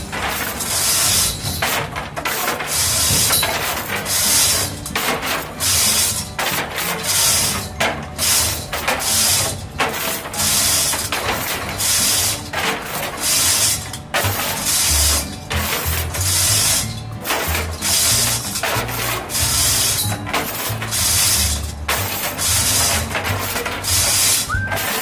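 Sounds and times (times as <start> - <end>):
steel chain rattling: 0.0 - 25.0.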